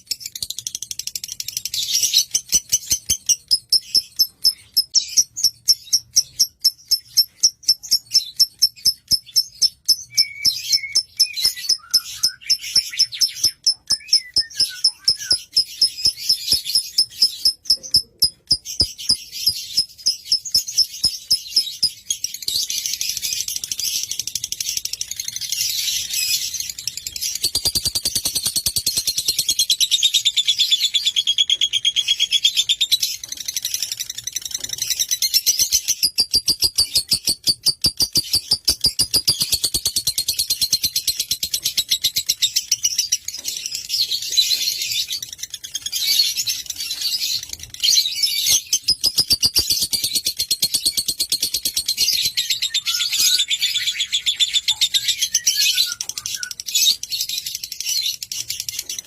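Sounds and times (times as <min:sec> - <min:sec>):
lovebird chirping: 0:00.0 - 0:59.0.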